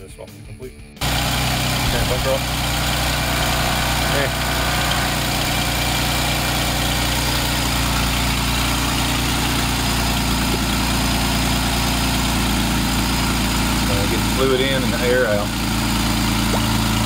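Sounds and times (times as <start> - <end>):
car engine idling: 1.0 - 17.0.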